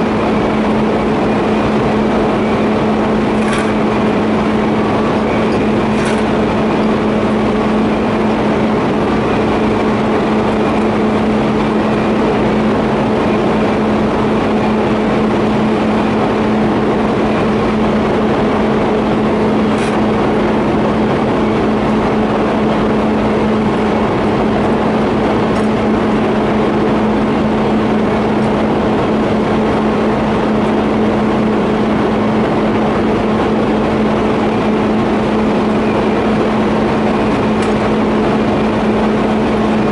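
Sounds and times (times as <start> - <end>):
low hum: 0.0 - 39.9.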